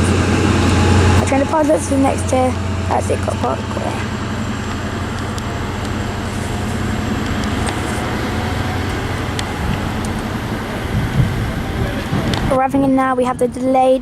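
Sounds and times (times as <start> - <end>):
diesel train engine humming: 0.0 - 14.0
rail and station noise: 0.0 - 14.0.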